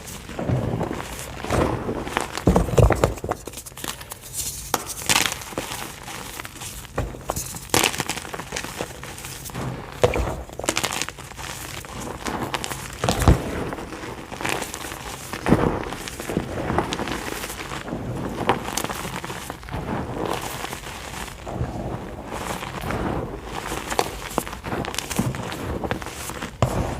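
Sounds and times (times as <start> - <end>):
chalk crumbling and crunching: 0.0 - 26.9.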